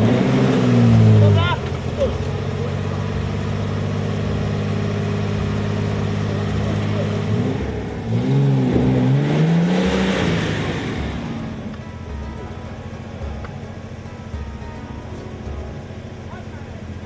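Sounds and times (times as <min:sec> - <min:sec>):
vehicle engine running and revving: 0:00.0 - 0:17.0.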